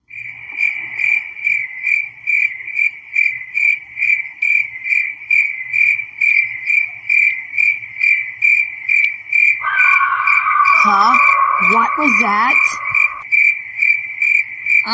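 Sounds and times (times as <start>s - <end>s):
crickets chirping: 0.6s - 13.8s.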